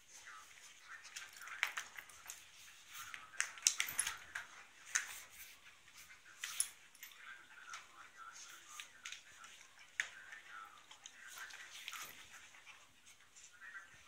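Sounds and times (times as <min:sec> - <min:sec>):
dogs scuffling on wooden floor: 0:00.0 - 0:14.0.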